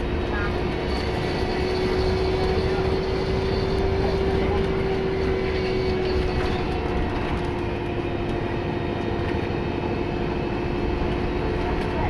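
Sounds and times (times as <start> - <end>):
turbo whistling whine: 0.0 - 11.5
bus engine and road rumble: 0.0 - 12.0.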